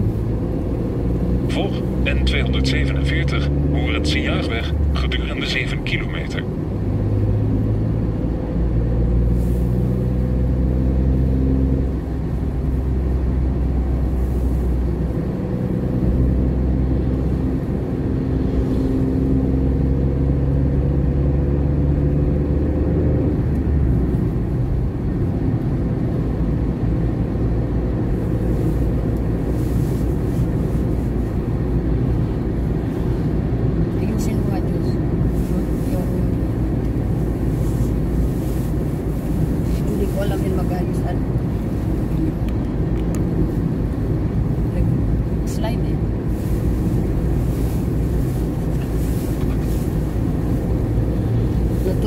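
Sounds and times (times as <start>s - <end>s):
car engine hum: 0.0s - 52.0s
tyre and road rumble: 0.0s - 52.0s.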